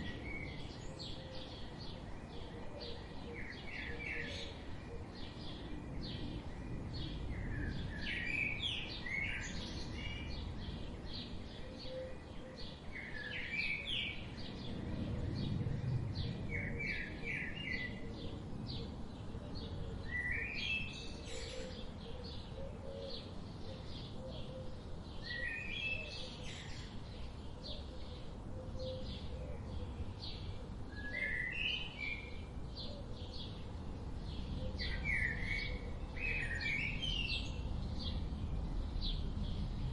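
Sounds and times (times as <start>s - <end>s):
low steady background noise: 0.0s - 39.9s.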